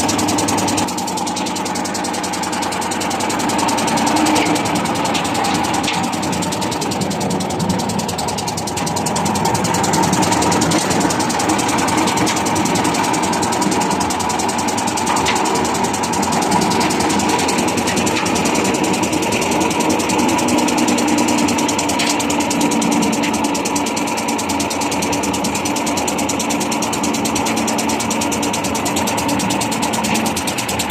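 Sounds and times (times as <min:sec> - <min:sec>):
diesel engine running steadily: 0:00.0 - 0:30.9.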